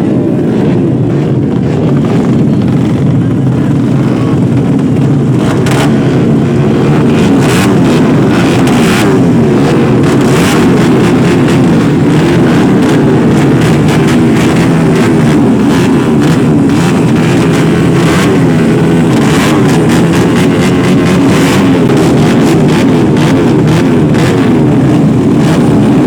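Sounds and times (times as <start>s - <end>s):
racing motorcycle engines revving: 0.0s - 26.0s.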